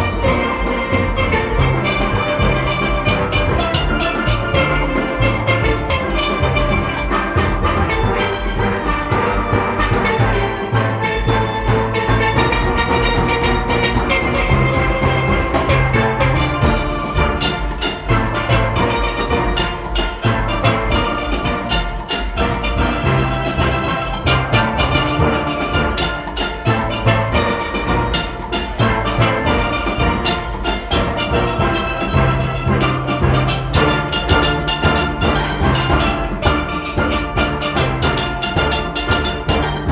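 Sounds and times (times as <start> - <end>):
drums and percussion beat: 0.0 - 39.9
steelpans playing melody: 0.0 - 39.9.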